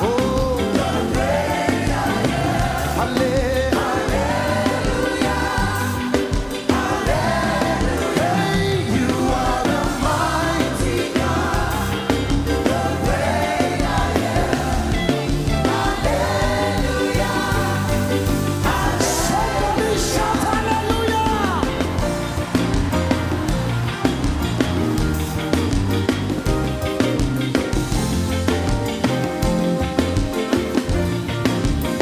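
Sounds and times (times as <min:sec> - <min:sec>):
gospel singing with choir: 0:00.0 - 0:25.8
band with bass and drums: 0:00.0 - 0:32.0.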